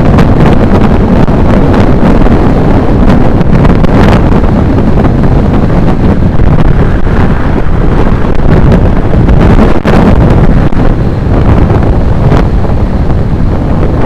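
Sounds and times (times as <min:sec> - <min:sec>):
wind roaring over microphone: 0:00.0 - 0:14.0.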